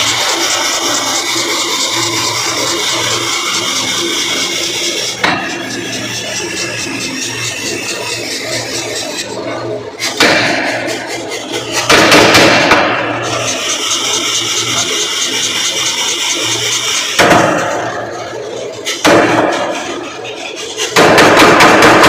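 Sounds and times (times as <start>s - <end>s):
mechanical power hammer running: 0.0s - 22.0s.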